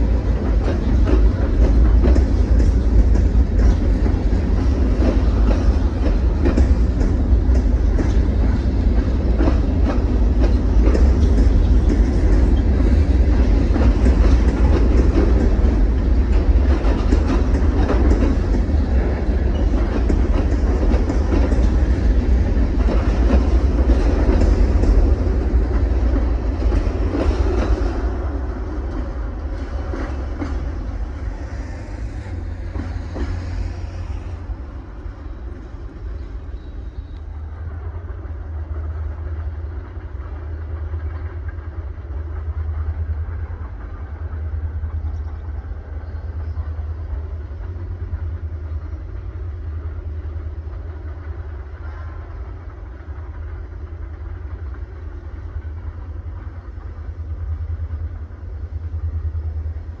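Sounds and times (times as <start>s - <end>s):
distant train rumble: 0.0s - 60.0s
train wheels rumbling on rails: 0.0s - 60.0s.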